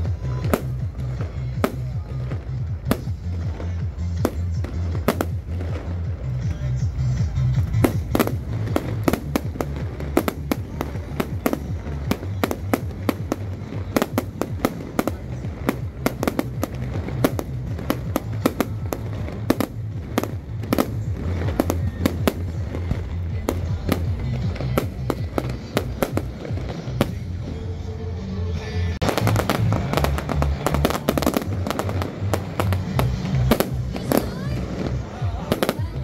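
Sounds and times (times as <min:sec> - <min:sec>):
fireworks bursting: 0:00.0 - 0:27.8, 0:29.0 - 0:36.0
bass-heavy music: 0:00.0 - 0:36.0.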